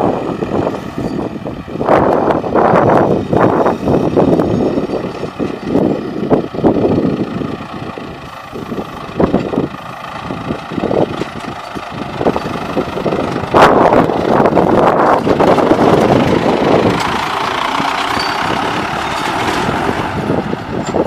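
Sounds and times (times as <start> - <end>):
tractor diesel engine running: 0.0 - 21.0
wind buffeting microphone: 0.0 - 21.0.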